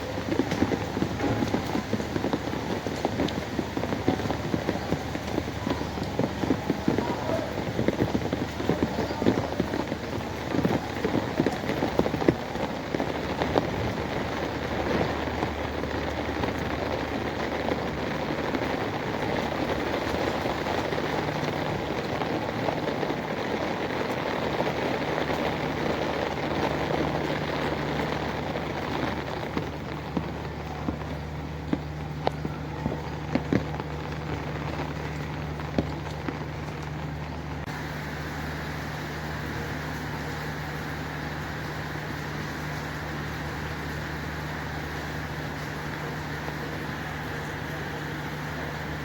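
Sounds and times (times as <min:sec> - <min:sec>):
low steady hum: 0:00.0 - 0:49.0
rain on hard surfaces: 0:00.0 - 0:49.0.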